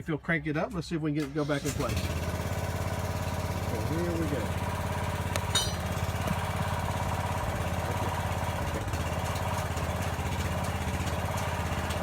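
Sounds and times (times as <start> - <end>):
small engine running: 1.6 - 12.0.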